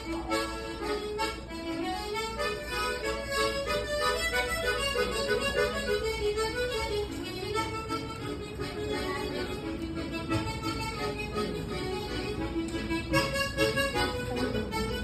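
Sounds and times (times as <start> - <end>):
solo harmonica melody: 0.0 - 15.0.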